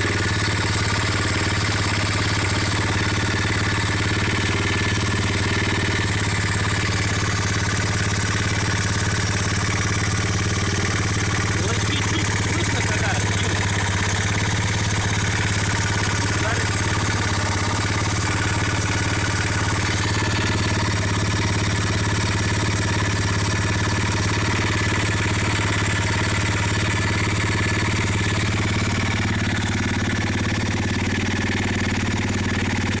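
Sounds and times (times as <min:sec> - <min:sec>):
engine knocking: 0:00.0 - 0:33.0
motorcycle engine idling: 0:00.0 - 0:33.0.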